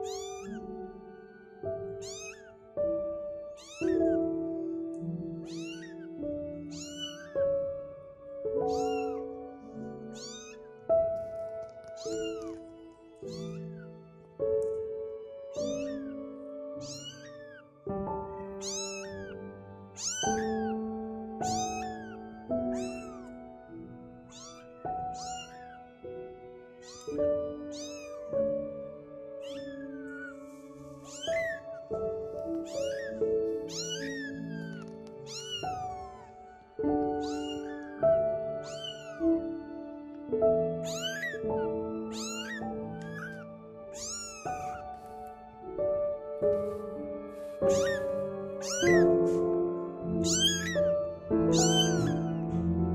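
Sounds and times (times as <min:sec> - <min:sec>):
kitten meowing: 0:00.0 - 0:08.0, 0:08.6 - 0:14.0, 0:14.6 - 0:26.1, 0:26.7 - 0:45.7, 0:46.5 - 0:52.9
background music with held notes: 0:00.0 - 0:52.9.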